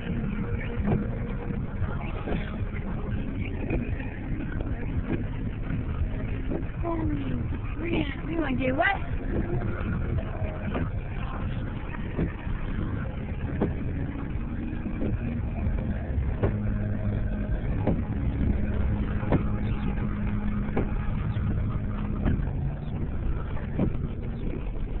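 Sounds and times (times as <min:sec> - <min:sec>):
low hum: 0:00.0 - 0:25.0
wind rumbling: 0:00.0 - 0:25.0.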